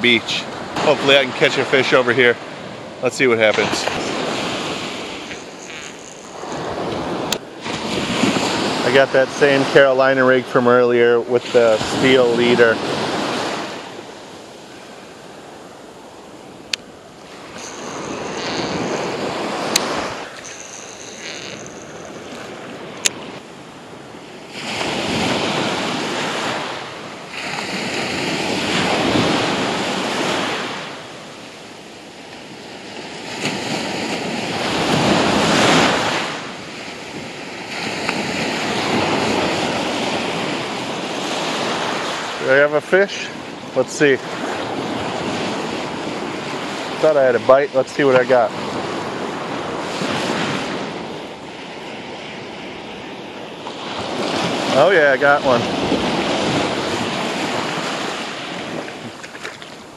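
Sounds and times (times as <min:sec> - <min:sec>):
surf breaking on beach: 0:00.0 - 0:16.2, 0:17.1 - 0:23.4, 0:24.4 - 0:31.1, 0:33.0 - 0:59.9
wind on microphone: 0:02.4 - 0:09.9, 0:11.2 - 0:31.4, 0:33.0 - 0:42.6, 0:48.2 - 0:59.9.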